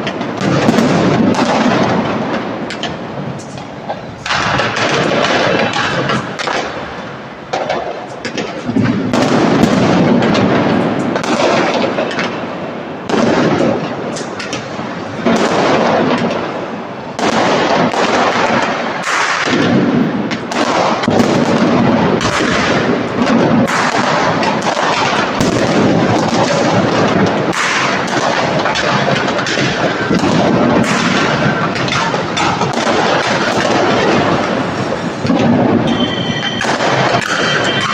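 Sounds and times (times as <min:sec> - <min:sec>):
fireworks bangs and crackling: 0:00.0 - 0:37.9
heavy firework booms: 0:00.0 - 0:37.9.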